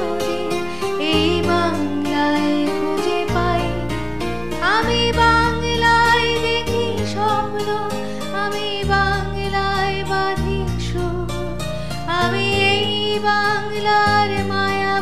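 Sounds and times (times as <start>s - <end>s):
instrumental backing track: 0.0s - 15.0s.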